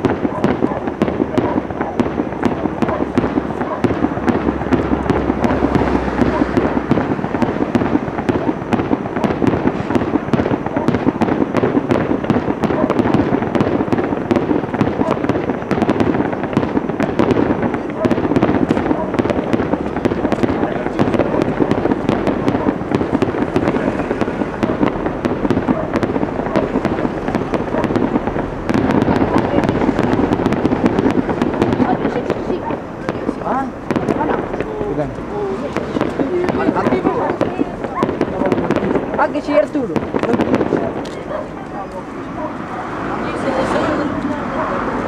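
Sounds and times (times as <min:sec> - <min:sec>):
fireworks cracking and crackling: 0:00.0 - 0:45.0.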